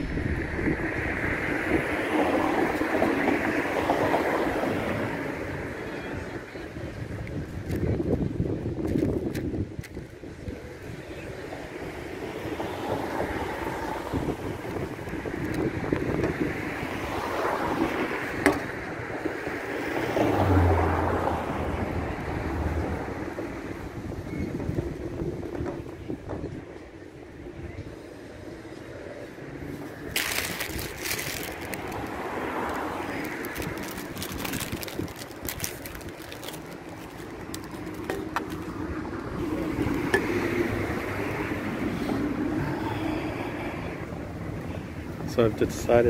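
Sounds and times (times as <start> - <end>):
wind on microphone: 0.0 - 45.6
passing traffic: 0.0 - 46.0
vehicle engine hum: 0.0 - 46.0.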